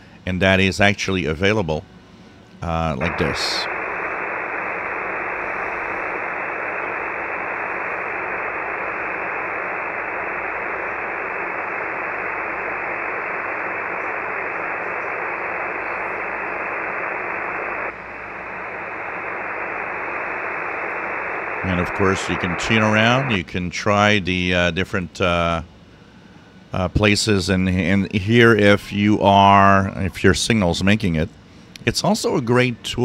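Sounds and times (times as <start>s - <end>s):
radio static hiss: 2.6s - 25.7s, 26.7s - 33.0s.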